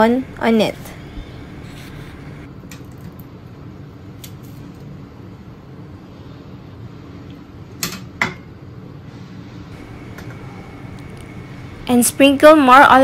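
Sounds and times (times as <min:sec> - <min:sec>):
background hum: 0:00.0 - 0:07.8, 0:09.6 - 0:13.0.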